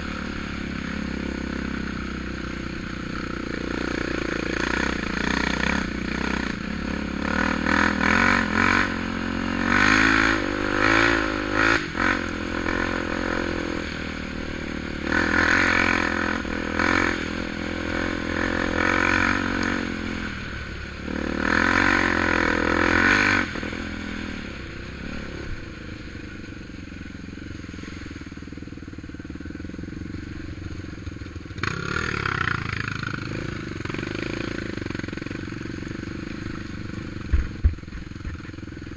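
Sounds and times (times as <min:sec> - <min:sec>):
atv engine revving and idling: 0:00.0 - 0:38.9.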